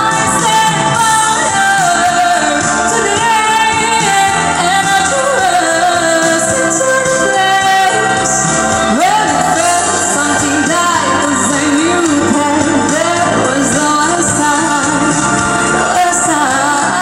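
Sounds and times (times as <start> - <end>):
instrumental backing music: 0.0 - 17.0
person singing a pop ballad: 0.0 - 17.0.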